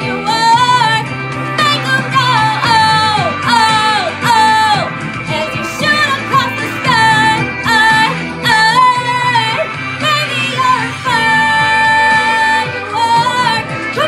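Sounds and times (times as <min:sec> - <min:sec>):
woman singing pop ballad: 0:00.0 - 0:14.0.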